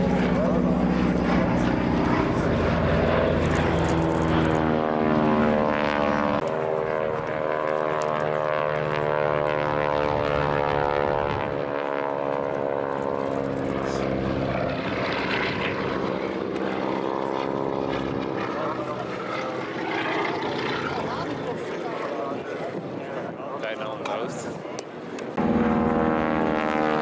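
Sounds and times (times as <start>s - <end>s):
propeller airplane flying past: 0.0s - 27.0s.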